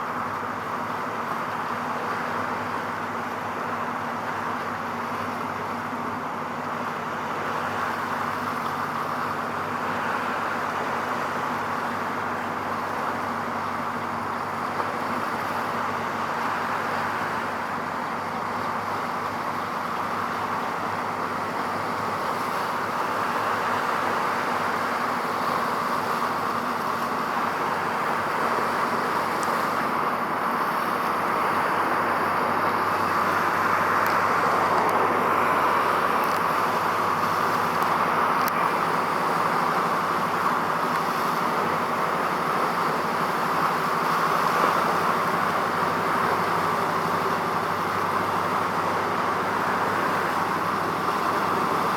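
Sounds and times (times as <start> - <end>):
distant road traffic roar: 0.0 - 51.9.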